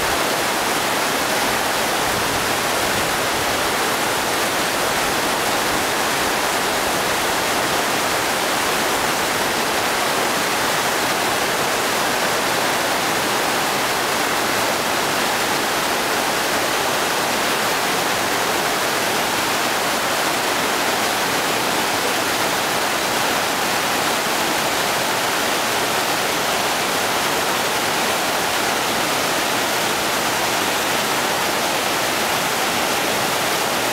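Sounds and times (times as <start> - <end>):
river rushing over boulders: 0.0 - 33.9.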